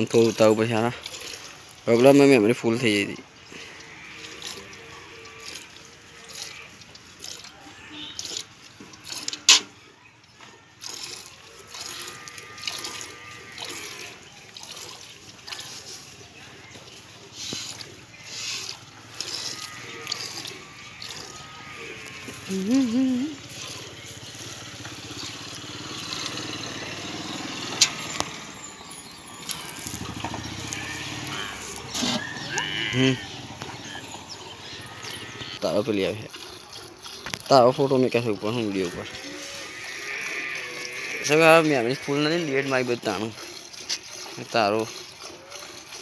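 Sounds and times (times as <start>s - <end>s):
milk squirting into steel bucket: 0.0s - 46.0s.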